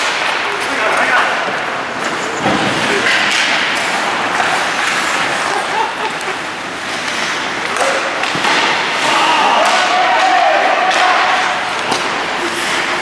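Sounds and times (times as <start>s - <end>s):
skates and sticks on ice: 0.0s - 13.0s
players calling out: 0.1s - 12.9s.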